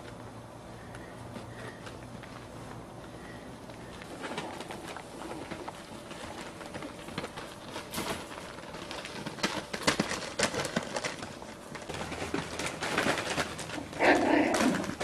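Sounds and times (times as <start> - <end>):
puppies scuffling in wire pen: 1.2 - 15.0.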